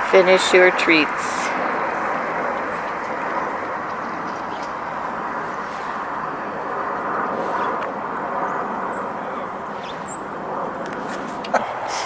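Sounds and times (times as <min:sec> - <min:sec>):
distant traffic roar: 0:00.0 - 0:12.0.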